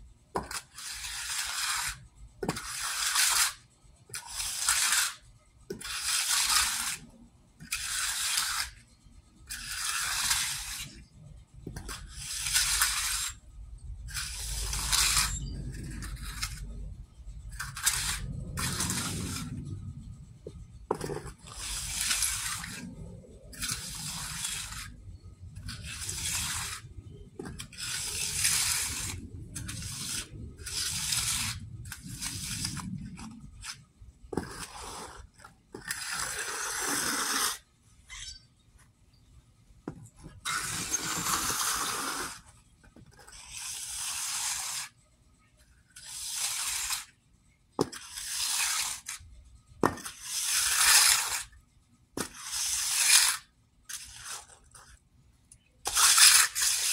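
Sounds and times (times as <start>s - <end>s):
trowel scraping wet concrete: 0.4s - 8.8s, 9.5s - 13.4s, 14.1s - 16.7s, 17.5s - 19.7s, 20.5s - 37.6s, 39.9s - 42.4s, 43.0s - 45.0s, 46.0s - 47.1s, 47.8s - 49.2s, 49.8s - 51.5s, 52.2s - 54.8s, 55.8s - 56.9s.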